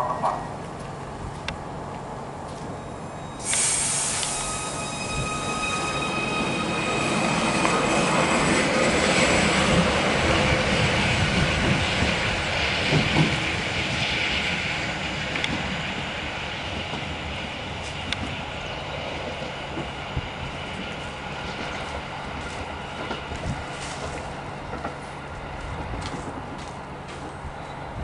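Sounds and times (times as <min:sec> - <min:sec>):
electric train whine: 0:00.0 - 0:28.0
train wheels rumbling on track: 0:00.0 - 0:28.0.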